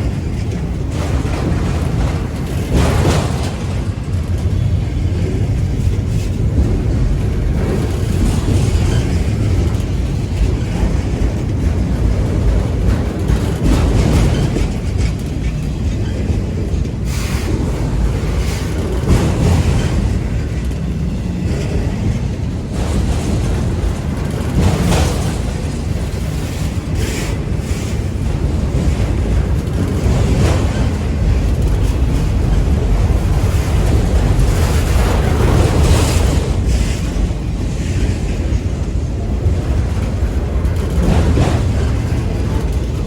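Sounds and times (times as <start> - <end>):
freight train rumbling past: 0.0 - 43.0
train wheels clattering: 0.0 - 43.0.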